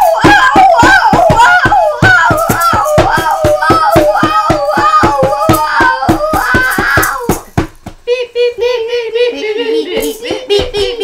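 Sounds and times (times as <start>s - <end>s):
children singing nonsense syllables: 0.0s - 11.0s.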